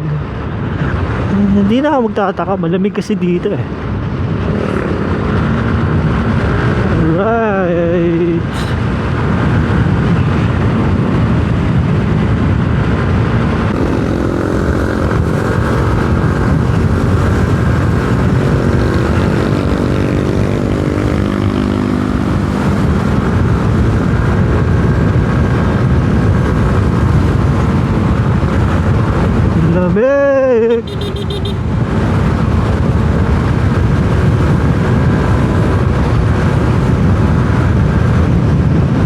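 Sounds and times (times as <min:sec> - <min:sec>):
scooter engine and wind rushing: 0:00.0 - 0:39.0
steady engine hum: 0:02.6 - 0:39.0.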